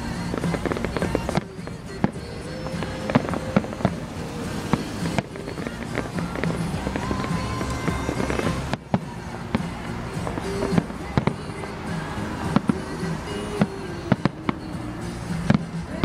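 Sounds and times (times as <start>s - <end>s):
fireworks banging: 0.0s - 16.0s
music: 0.0s - 16.0s.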